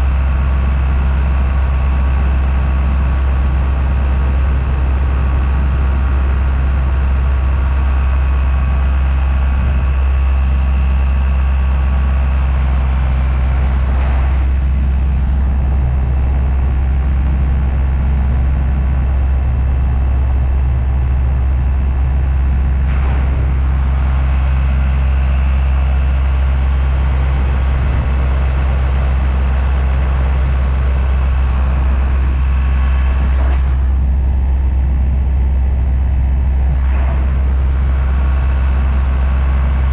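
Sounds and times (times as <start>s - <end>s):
paramotor engine and propeller drone: 0.0s - 39.9s.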